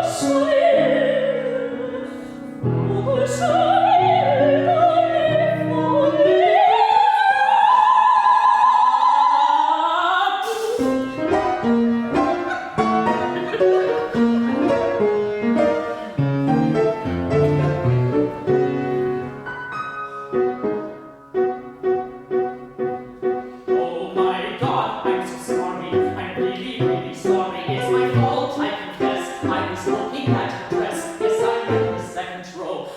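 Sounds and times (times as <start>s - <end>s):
piano accompaniment: 0.0s - 9.4s, 10.4s - 32.9s.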